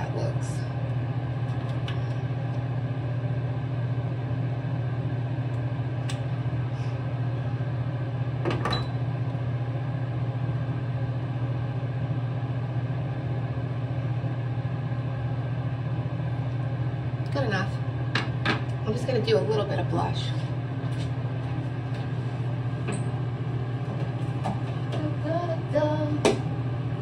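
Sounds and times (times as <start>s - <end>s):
low hum of motor or fan: 0.0s - 27.0s.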